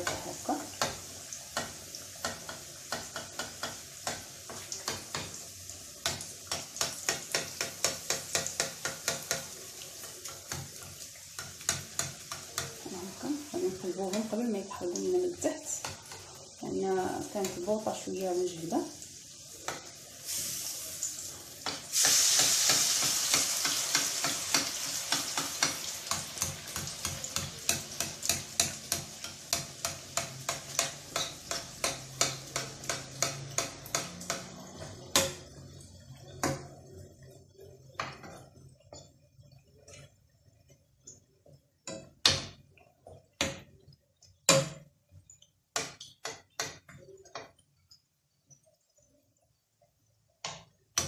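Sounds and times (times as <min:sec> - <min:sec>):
hot oil sizzling in a frying pan: 0:00.0 - 0:51.0.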